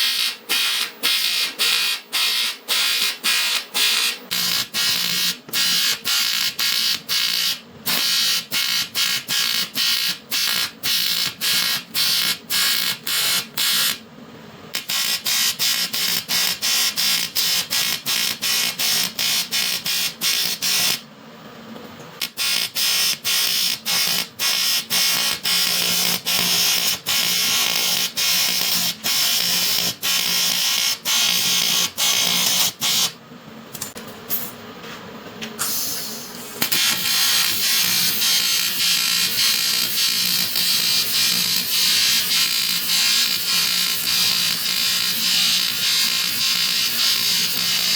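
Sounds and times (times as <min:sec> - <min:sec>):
welding arc buzzing and crackling: 0:00.0 - 0:14.0, 0:14.7 - 0:21.0, 0:22.2 - 0:33.2, 0:36.1 - 0:47.9.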